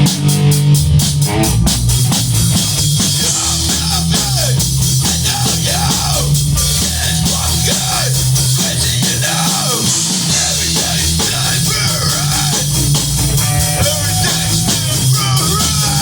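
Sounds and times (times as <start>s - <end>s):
electric guitar lead line: 0.0s - 16.0s
rock band playing: 0.0s - 16.0s.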